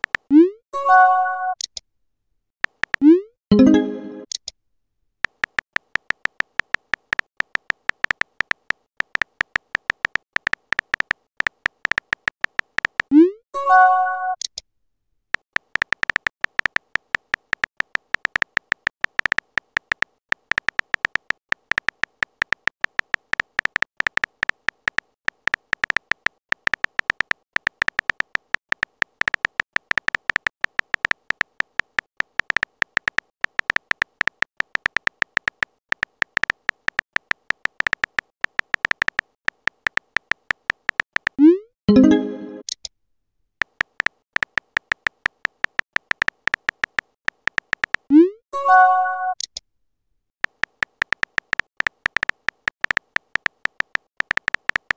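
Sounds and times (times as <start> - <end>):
keyboard typing clicks: 2.6 - 4.5, 5.2 - 14.6, 15.4 - 42.9, 43.6 - 49.6, 50.4 - 54.9.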